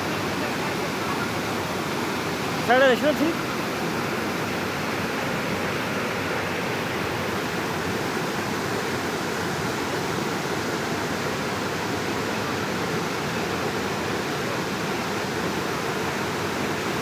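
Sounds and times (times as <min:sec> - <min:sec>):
water rushing down a stream: 0:00.0 - 0:17.0.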